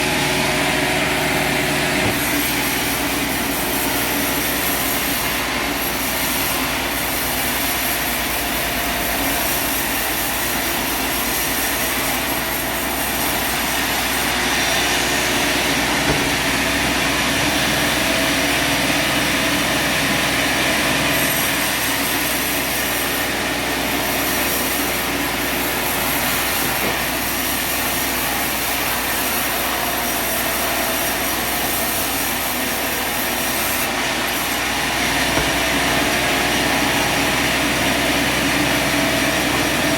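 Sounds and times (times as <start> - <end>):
sawmill motor and blade drone: 0.0 - 39.9.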